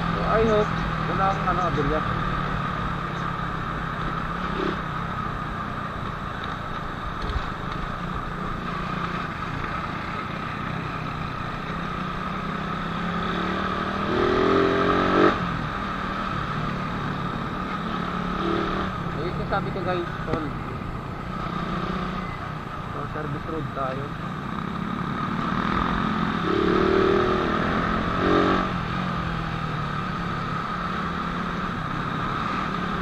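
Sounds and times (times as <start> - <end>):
traffic: 0.0 - 33.0.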